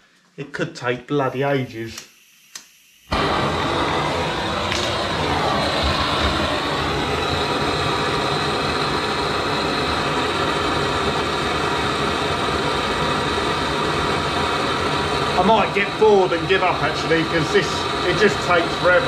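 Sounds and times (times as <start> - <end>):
blowtorch flame hissing: 1.2 - 19.0.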